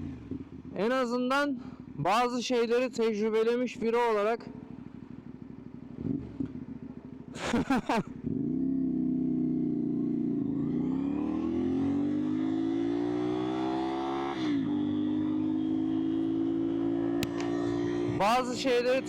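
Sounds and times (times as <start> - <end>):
motorcycle engine revving: 0.0 - 0.8, 4.5 - 19.0.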